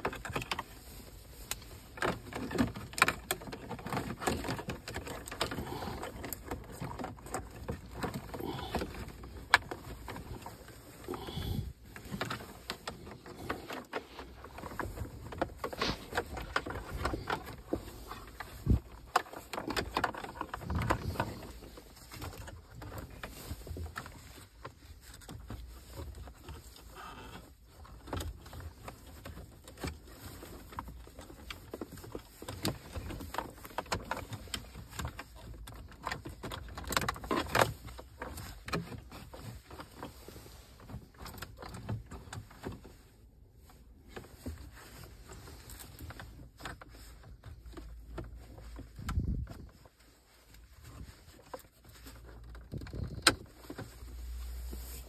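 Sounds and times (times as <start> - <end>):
cables and clothing rustling: 0.0 - 55.0.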